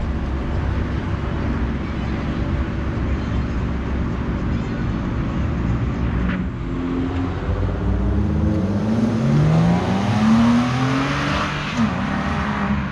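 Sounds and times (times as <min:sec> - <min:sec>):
sports car engine accelerating: 0:00.0 - 0:12.9.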